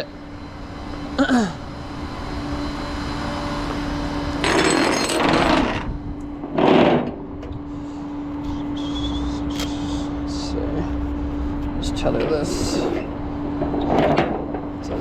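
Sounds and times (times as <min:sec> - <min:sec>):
hydraulic system whining: 0:00.0 - 0:15.0.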